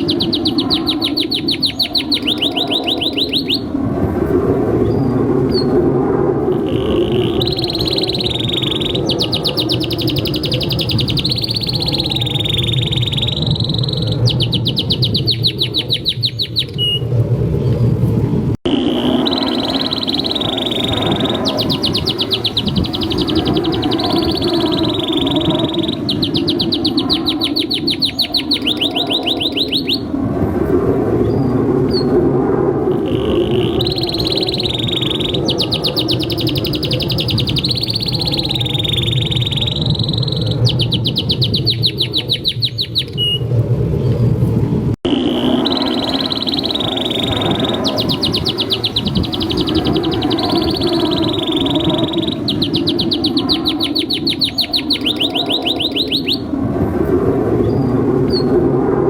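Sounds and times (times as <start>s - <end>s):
canary singing: 0.0s - 3.7s, 6.5s - 17.0s, 18.7s - 30.1s, 33.0s - 43.4s, 45.1s - 56.5s.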